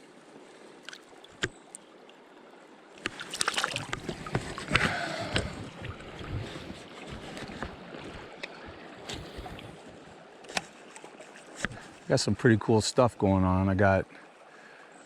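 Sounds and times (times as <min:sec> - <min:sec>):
water splashing and sloshing: 0:00.2 - 0:12.6.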